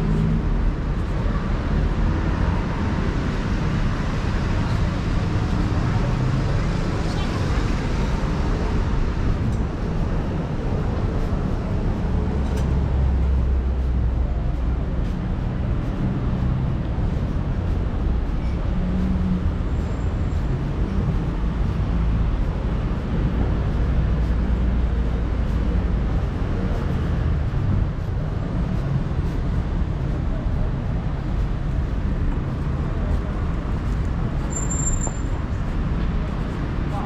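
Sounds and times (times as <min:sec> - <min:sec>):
low rumble of traffic: 0:00.0 - 0:37.0.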